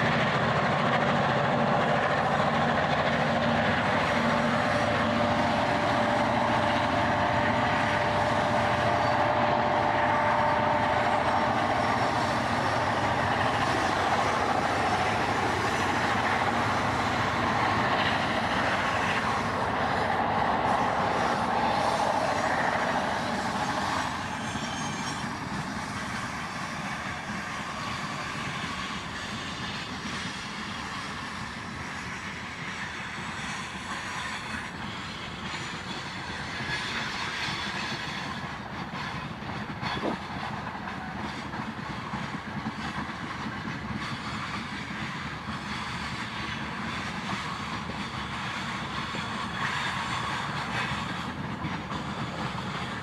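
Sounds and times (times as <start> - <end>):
diesel locomotive engines working hard: 0.0 - 53.0.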